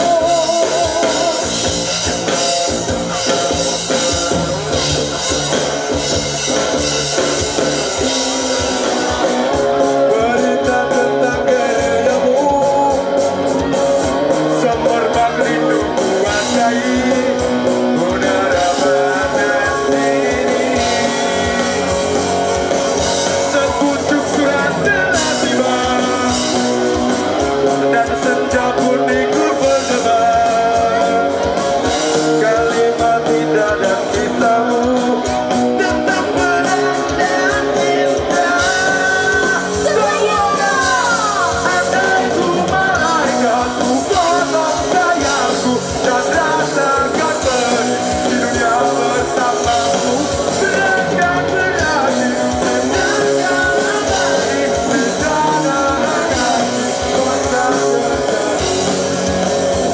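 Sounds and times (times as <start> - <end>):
person singing: 0.0 - 4.6, 8.0 - 59.9
rock band music: 0.0 - 59.9.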